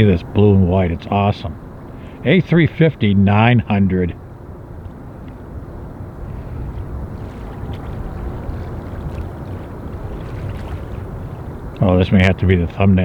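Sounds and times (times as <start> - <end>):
jet aircraft roar: 0.0 - 13.0
wind buffeting microphone: 0.0 - 13.0.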